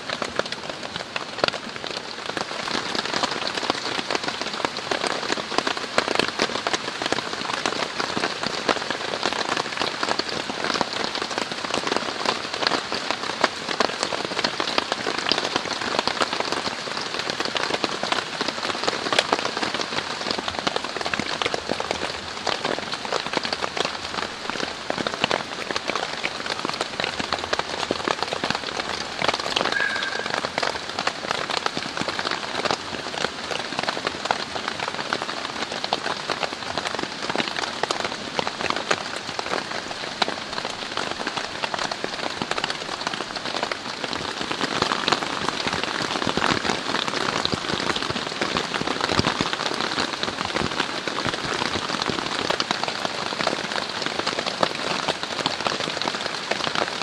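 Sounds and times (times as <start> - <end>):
heavy rain on tent fabric: 0.0 - 57.0.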